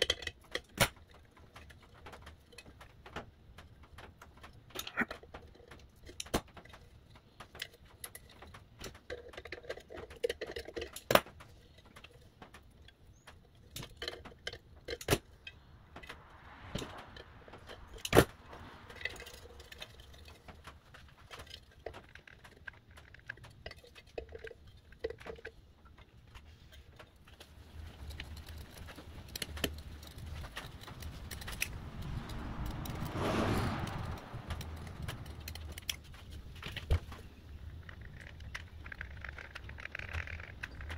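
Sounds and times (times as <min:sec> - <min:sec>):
clicks and clinks of wires in metal housing: 0:00.0 - 0:33.2, 0:34.0 - 0:40.9.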